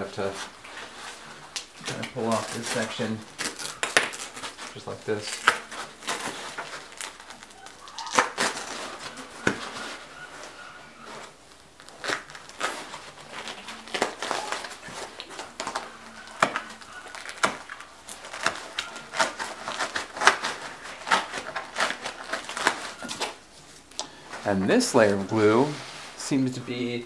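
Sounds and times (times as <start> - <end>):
foam layers tearing apart: 0.2 - 10.1, 11.0 - 23.4.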